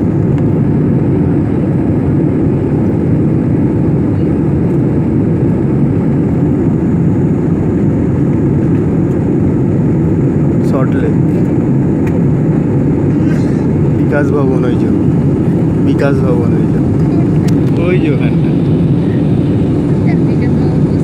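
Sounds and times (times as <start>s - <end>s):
jet engines rumbling inside cabin: 0.0s - 21.0s.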